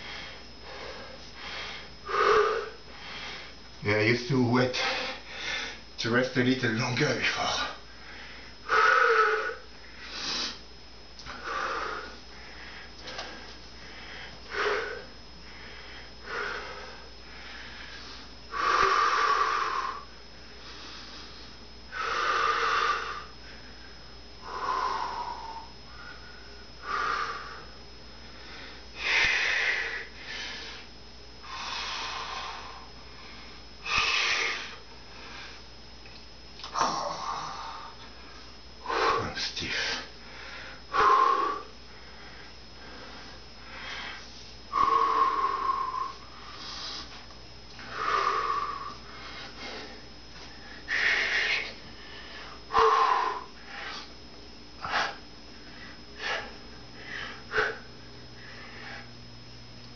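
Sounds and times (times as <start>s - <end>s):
man breathing heavily: 0.0s - 3.8s, 4.6s - 6.0s, 7.4s - 35.8s, 36.6s - 59.2s.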